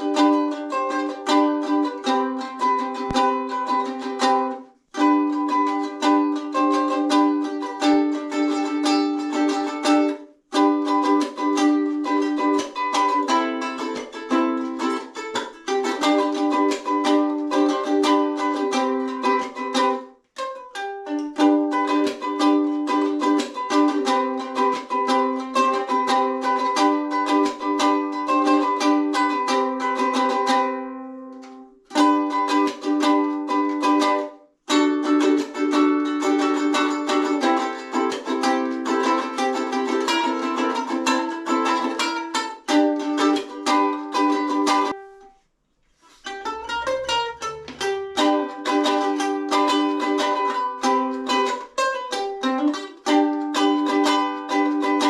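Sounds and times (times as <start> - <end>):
ukulele strumming chords: 0.0 - 45.4, 46.0 - 55.0.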